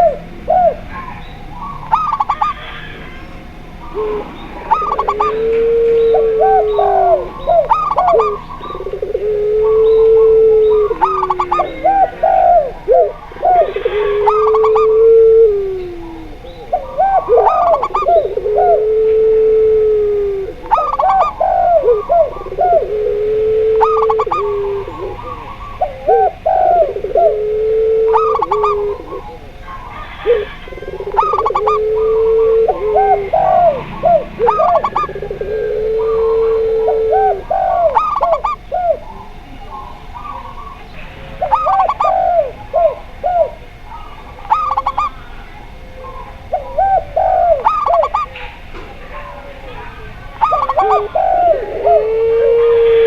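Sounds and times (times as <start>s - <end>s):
high staccato dove coos: 0.0s - 53.0s
low drawn-out dove coos: 0.0s - 53.0s.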